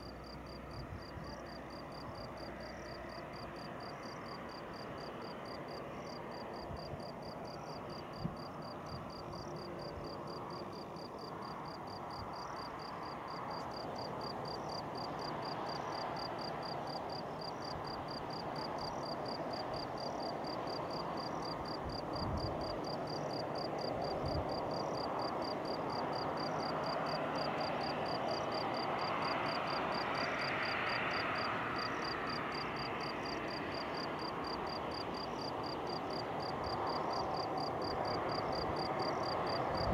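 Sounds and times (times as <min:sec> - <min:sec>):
crickets chirping: 0:00.0 - 0:39.9
distant jet engine rush: 0:00.0 - 0:39.9.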